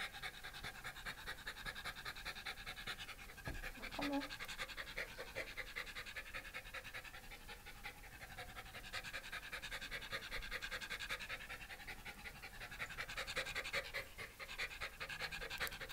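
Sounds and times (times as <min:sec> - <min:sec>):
dog panting: 0:00.0 - 0:15.9.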